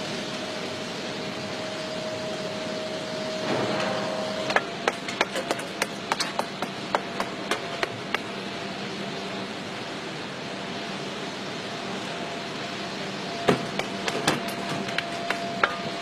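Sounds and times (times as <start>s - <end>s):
foundry hum: 0.0s - 16.0s.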